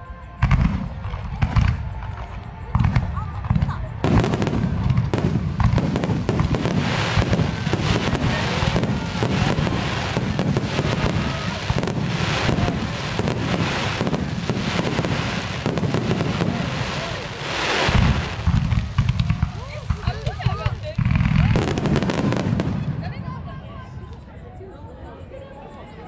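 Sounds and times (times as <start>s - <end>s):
fireworks bursting: 0.2s - 24.2s.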